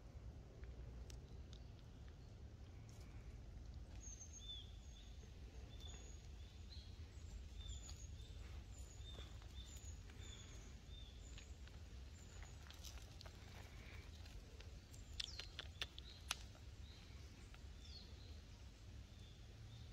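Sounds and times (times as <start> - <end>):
faint low outdoor rumble: 0.0 - 19.9
bird chirping: 1.1 - 19.9.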